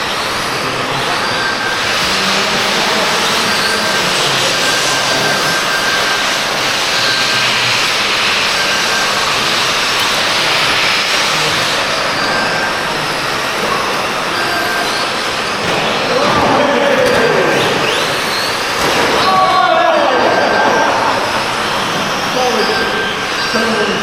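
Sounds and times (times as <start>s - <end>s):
model trucks motor whine: 0.0s - 24.0s.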